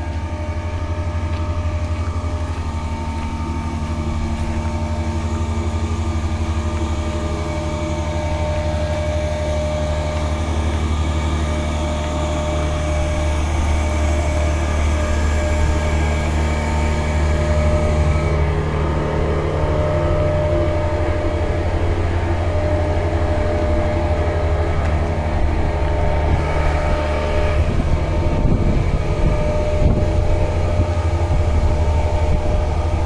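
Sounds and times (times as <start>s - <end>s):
constant machine tones: 0.0s - 33.0s
low machine hum: 0.0s - 33.0s.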